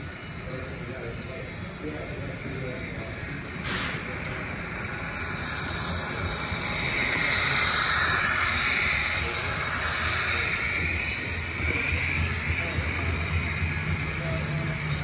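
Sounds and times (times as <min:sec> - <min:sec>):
model locomotive mechanical whine: 0:00.0 - 0:15.0.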